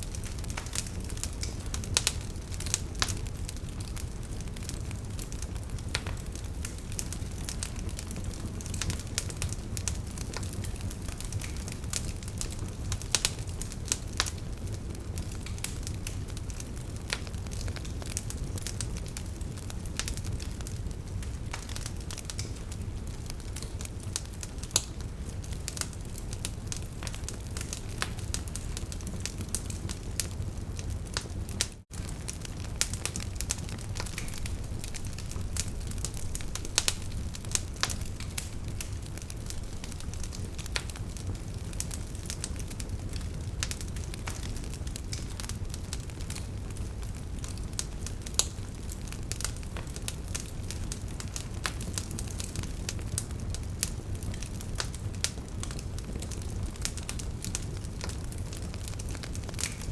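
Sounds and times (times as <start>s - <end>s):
fire pops and snaps: 0.0s - 59.9s
low rumble of burning logs: 0.0s - 59.9s.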